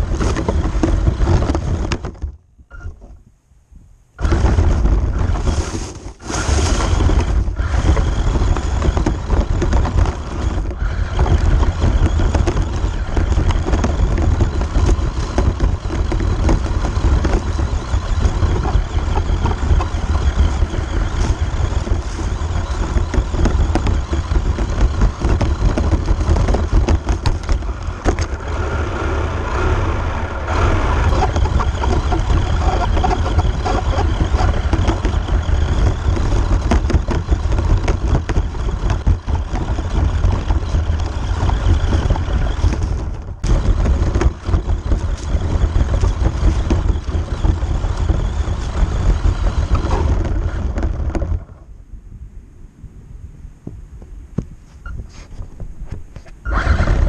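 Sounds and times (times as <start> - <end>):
chassis rattling and knocking: 0.0 - 2.4, 6.2 - 28.6, 30.5 - 51.7
deep rumble: 0.0 - 57.0.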